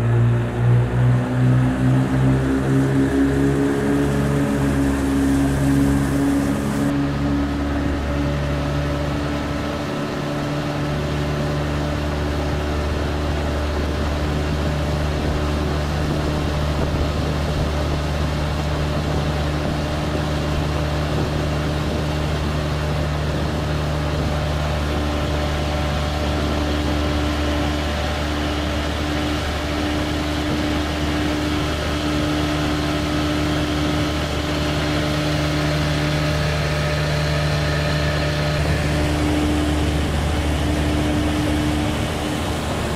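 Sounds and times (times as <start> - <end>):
outboard motor running: 0.0 - 42.9
water rushing along hull: 0.0 - 42.9.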